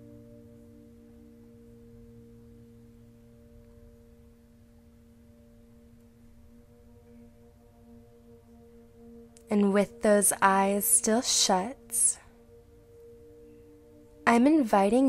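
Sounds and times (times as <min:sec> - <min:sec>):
meditative drone music: 0:00.0 - 0:15.0.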